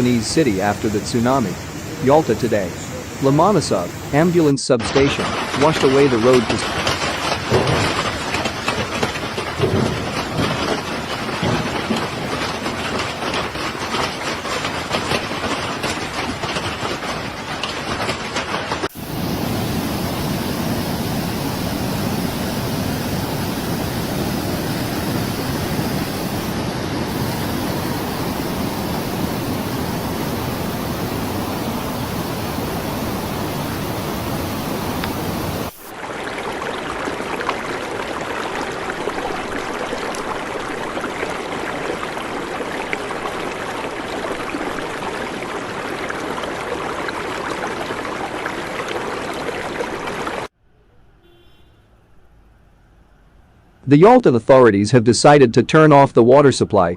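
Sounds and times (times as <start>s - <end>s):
rushing floodwater: 0.0s - 50.5s.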